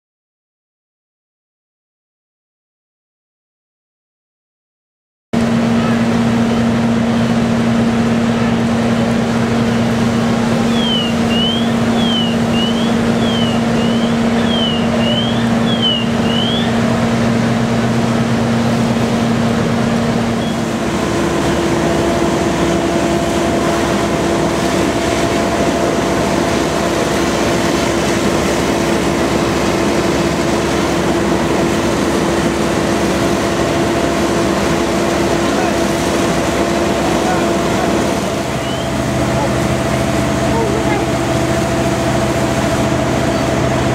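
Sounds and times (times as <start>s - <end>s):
diesel engines droning: 5.4s - 43.9s.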